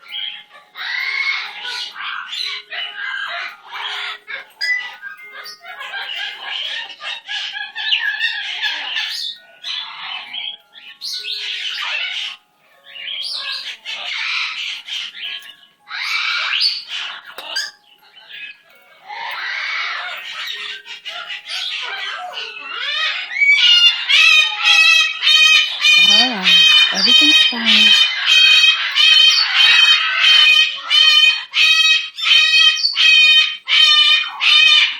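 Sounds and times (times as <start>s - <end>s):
parrot squawking: 0.0s - 34.9s.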